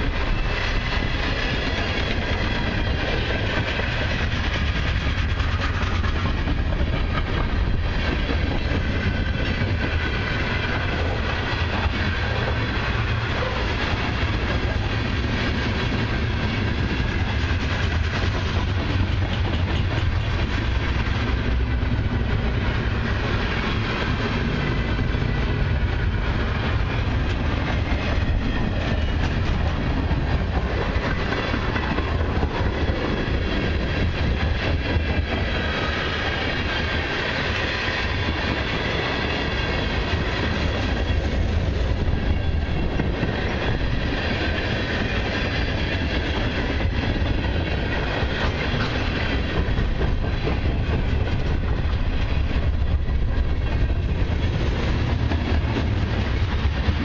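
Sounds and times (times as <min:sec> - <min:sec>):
freight train wheels rumbling: 0:00.0 - 0:57.0
wheels clicking over rail joints: 0:00.0 - 0:57.0.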